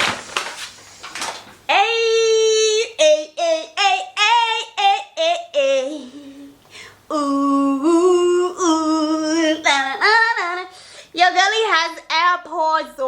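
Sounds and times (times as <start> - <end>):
woman singing unaccompanied: 1.7 - 13.0.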